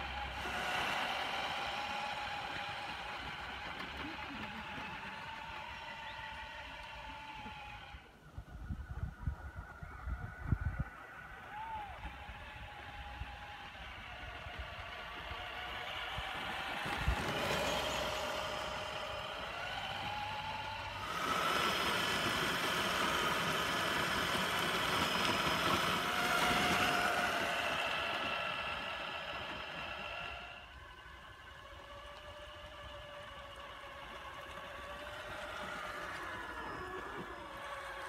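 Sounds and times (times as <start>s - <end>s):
toy car electric motor whining: 0.0s - 8.7s, 9.5s - 38.0s.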